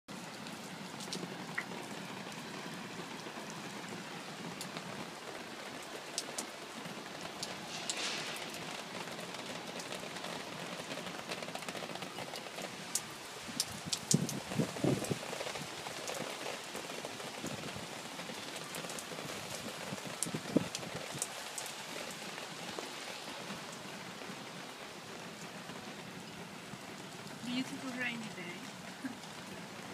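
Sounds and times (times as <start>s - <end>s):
raindrops ticking nearby: 0.1s - 29.9s
steady rain falling: 0.1s - 29.9s.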